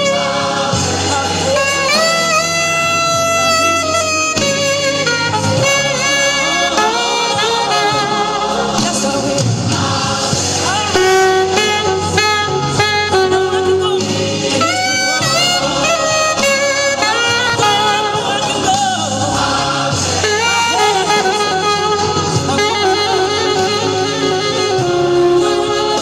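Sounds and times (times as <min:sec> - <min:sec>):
alto saxophone melody: 0:00.0 - 0:26.0
backing track: 0:00.0 - 0:26.0.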